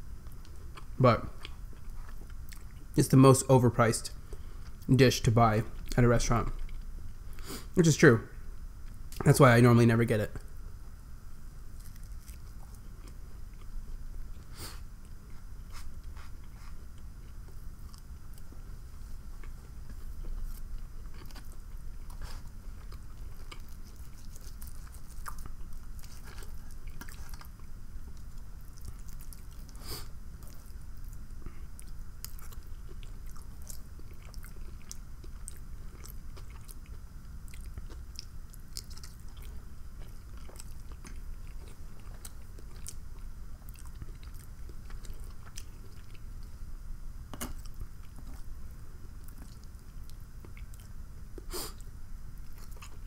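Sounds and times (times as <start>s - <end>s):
steady low hum: 0.0s - 53.0s
person chewing food: 0.2s - 2.9s, 11.7s - 46.6s, 47.3s - 53.0s.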